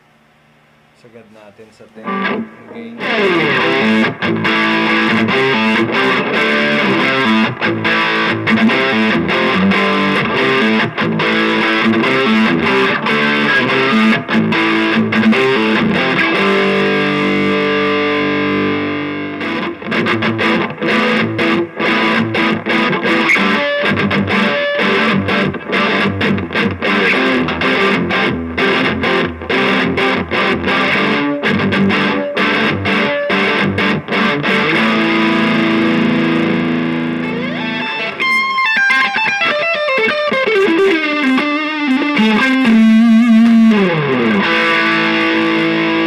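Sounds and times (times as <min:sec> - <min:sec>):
distorted electric guitar: 0:01.0 - 0:46.0.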